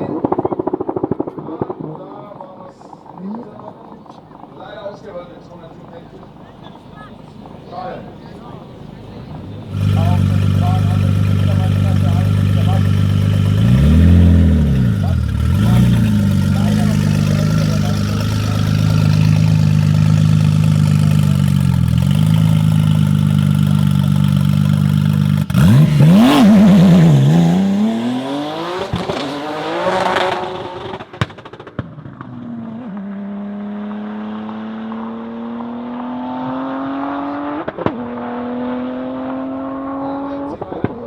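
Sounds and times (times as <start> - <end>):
sharp exhaust cracks: 0.0 - 33.2
car engine accelerating: 2.3 - 41.0.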